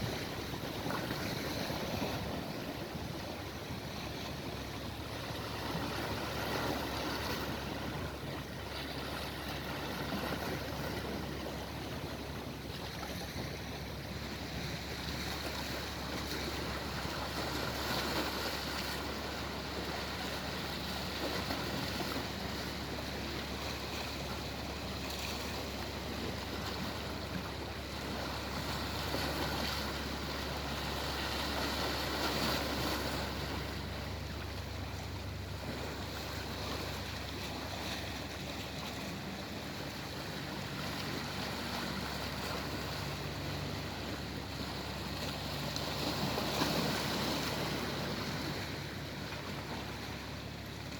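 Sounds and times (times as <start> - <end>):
sea waves breaking: 0.0 - 50.9
steady low rumble: 0.0 - 50.9.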